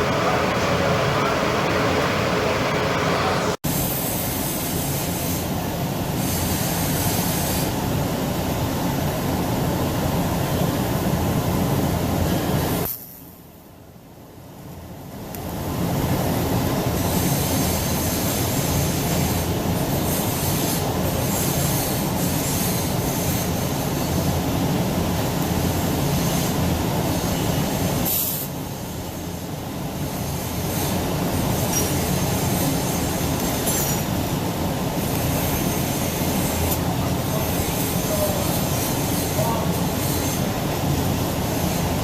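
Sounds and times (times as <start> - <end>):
welding arc hiss and buzz: 0.0 - 8.7, 15.3 - 42.0.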